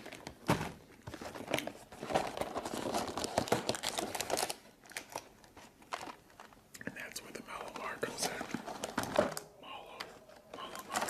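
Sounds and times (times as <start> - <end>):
plastic wrapper crinkling and tearing: 0.0 - 11.0.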